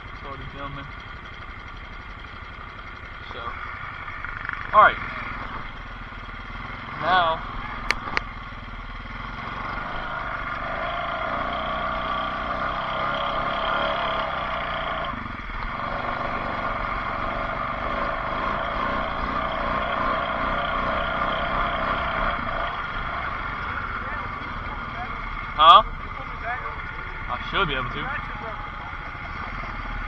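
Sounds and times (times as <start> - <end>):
vehicle engines running: 0.0 - 30.0.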